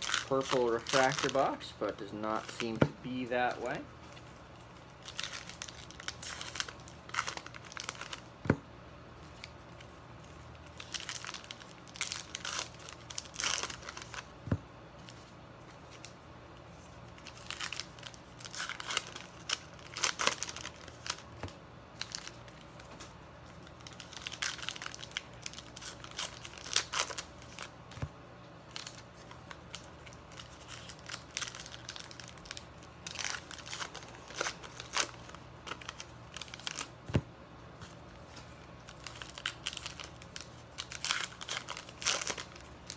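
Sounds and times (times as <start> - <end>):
card pack wrappers tearing and crinkling: 0.0 - 8.3, 9.3 - 14.3, 17.0 - 28.0, 28.6 - 37.0, 37.8 - 42.9.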